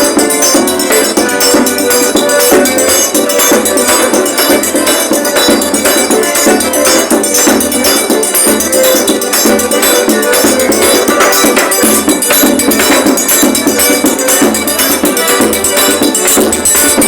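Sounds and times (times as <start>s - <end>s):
folk music played by trio: 0.0s - 17.0s
percussion beat: 0.0s - 17.0s.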